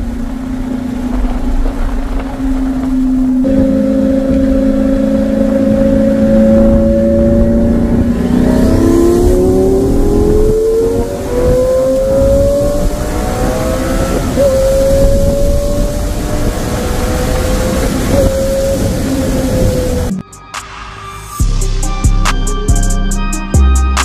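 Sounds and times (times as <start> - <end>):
sports car engine accelerating: 0.0 - 20.2.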